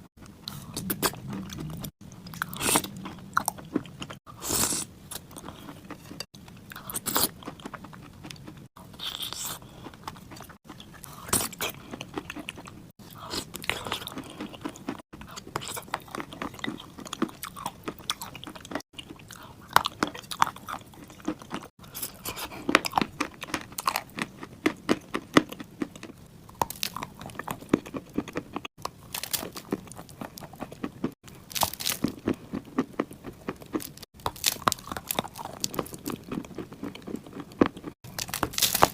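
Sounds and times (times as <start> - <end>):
crunching and chewing clay: 0.4 - 38.9.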